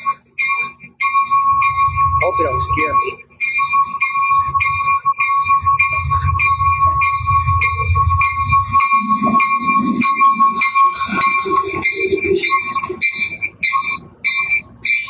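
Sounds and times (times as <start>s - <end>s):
locomotive bell ringing: 0.0s - 15.0s
low train rumble: 0.0s - 15.0s.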